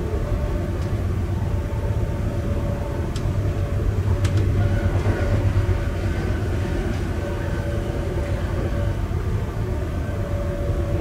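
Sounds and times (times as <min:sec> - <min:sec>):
train wheels rumbling on track: 0:00.1 - 0:11.0.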